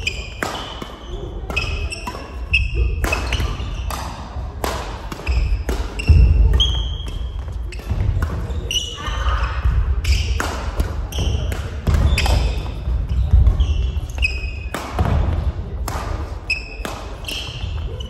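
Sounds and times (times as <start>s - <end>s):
racket striking shuttlecock: 0.0s - 8.9s, 10.0s - 17.6s
sneakers squeaking on floor: 0.0s - 15.5s, 16.2s - 18.0s.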